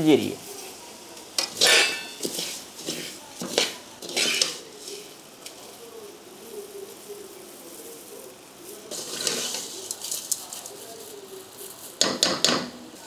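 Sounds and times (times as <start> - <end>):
quiet frying: 0.0 - 13.0
seeds rattling against metal: 0.1 - 13.0.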